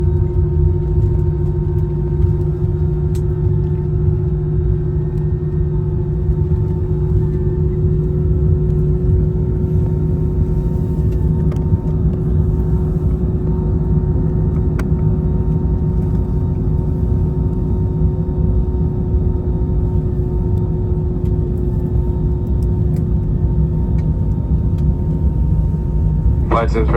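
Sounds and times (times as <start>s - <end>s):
airplane cabin low rumble: 0.0s - 26.9s
constant hum: 0.0s - 26.9s.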